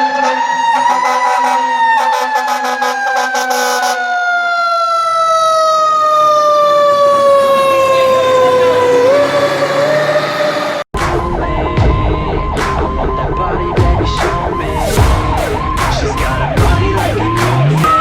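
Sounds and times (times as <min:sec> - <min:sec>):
fire truck siren winding down: 0:00.0 - 0:10.9, 0:14.3 - 0:18.0.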